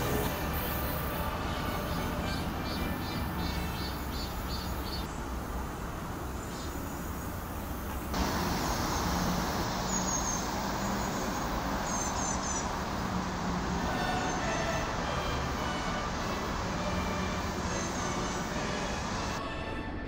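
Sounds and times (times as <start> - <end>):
faint insects pulsing: 0.0 - 19.4.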